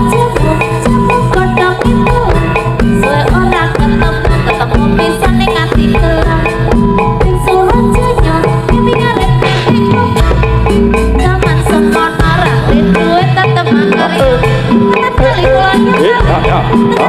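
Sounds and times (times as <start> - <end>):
drums: 0.0 - 17.0
gamelan music over loudspeakers: 0.0 - 17.0.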